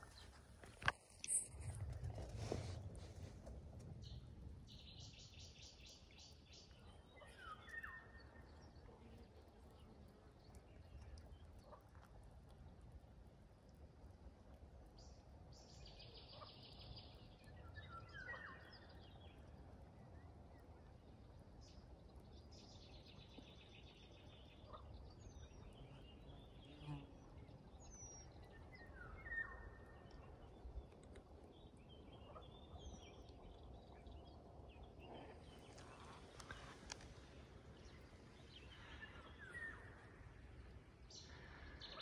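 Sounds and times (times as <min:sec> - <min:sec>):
faint outdoor ambience: 0:00.0 - 0:42.0.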